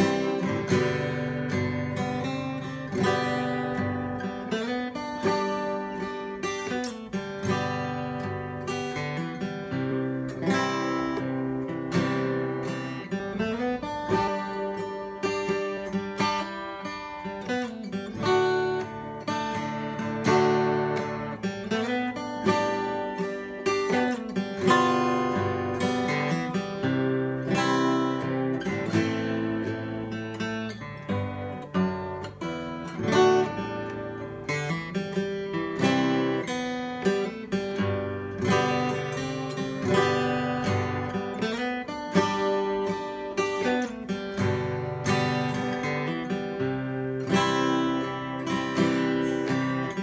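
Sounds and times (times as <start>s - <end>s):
fingerstyle acoustic guitar: 0.0s - 50.0s.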